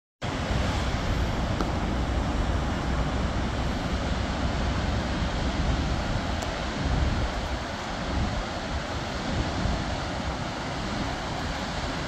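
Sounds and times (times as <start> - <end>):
waterfall roaring: 0.2 - 12.0
wind buffeting microphone: 0.3 - 12.0.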